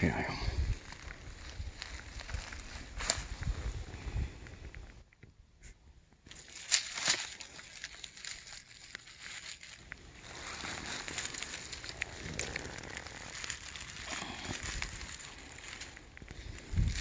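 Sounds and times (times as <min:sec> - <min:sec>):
dry leaves and twigs rustling: 0:00.0 - 0:05.0, 0:06.2 - 0:17.0.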